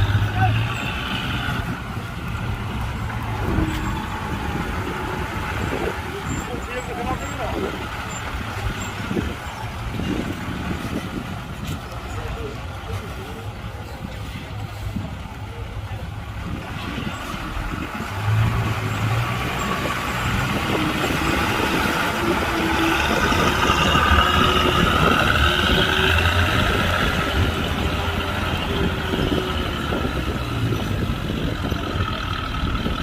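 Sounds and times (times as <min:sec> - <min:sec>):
heavy machinery engine running: 0:00.0 - 0:33.0.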